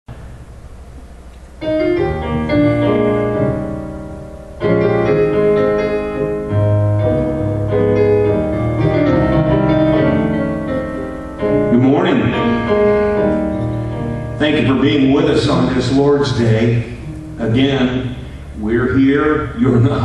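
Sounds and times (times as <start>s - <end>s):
slow piano notes and chords: 0.1s - 20.0s.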